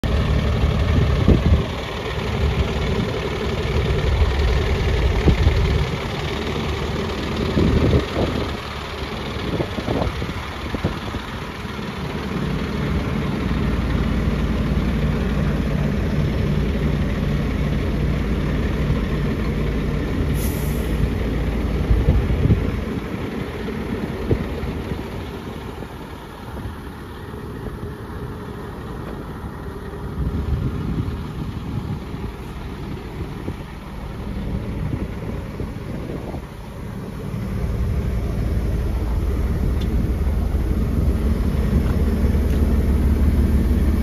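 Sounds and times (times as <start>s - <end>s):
diesel truck engine idling: 0.0s - 44.0s.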